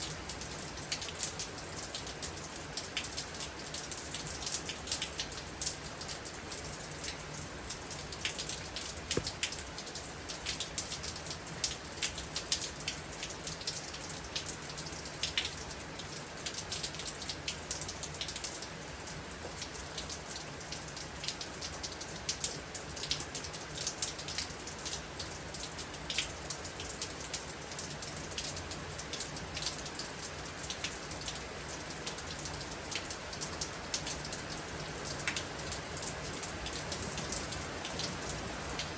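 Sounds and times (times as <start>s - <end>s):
raindrops striking a surface: 0.0s - 38.9s.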